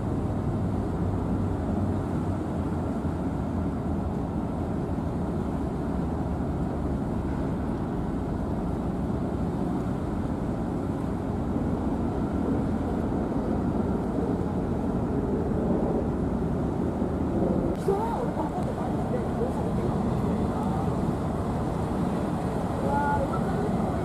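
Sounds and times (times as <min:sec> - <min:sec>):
diesel engines rumbling: 0:00.0 - 0:24.0
faint constant hum: 0:00.0 - 0:24.0.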